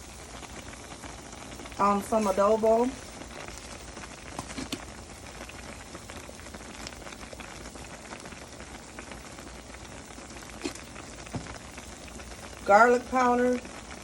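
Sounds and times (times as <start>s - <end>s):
pot simmering: 0.0s - 14.0s.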